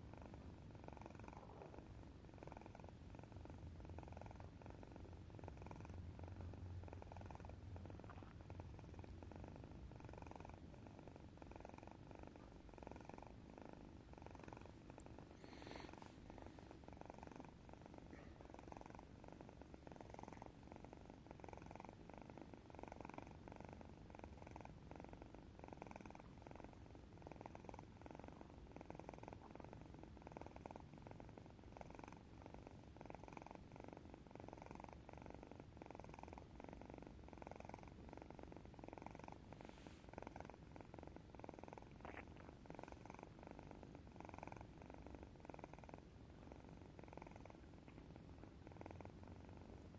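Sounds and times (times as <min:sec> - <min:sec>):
cat snoring softly: 0:00.0 - 0:49.9.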